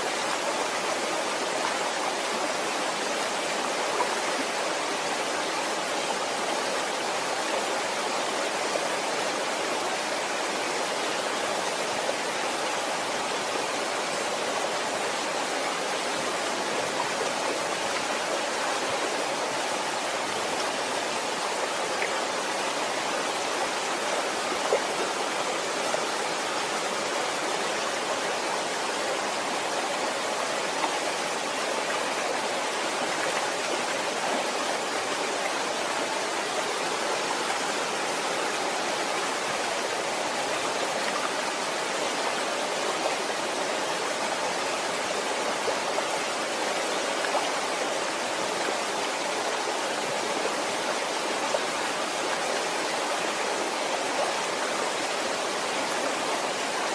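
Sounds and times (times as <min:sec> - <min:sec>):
waterfall rushing and splashing: 0:00.0 - 0:56.9.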